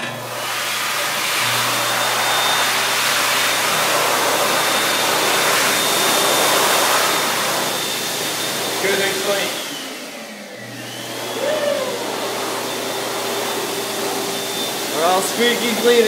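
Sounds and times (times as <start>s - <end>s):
hand dryer blowing with high whine: 0.0s - 16.0s.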